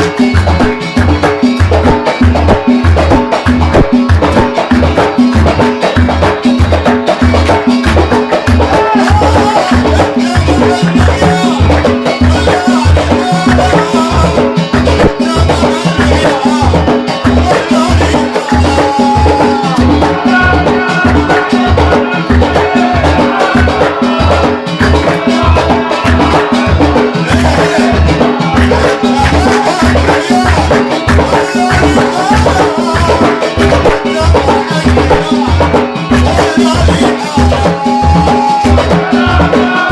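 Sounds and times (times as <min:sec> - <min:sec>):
driving drum beat: 0:00.0 - 0:39.9
folk band music: 0:00.0 - 0:39.9.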